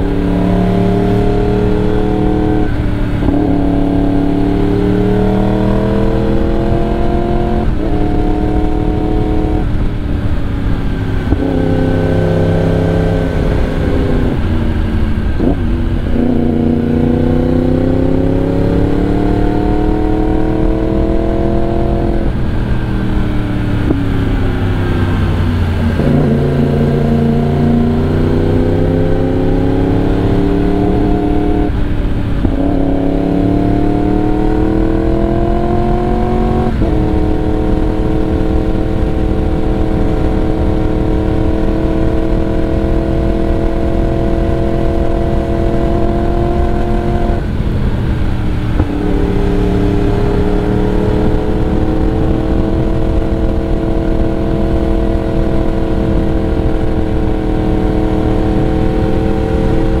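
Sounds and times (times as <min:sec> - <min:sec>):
motorcycle exhaust note: 0:00.0 - 1:00.0.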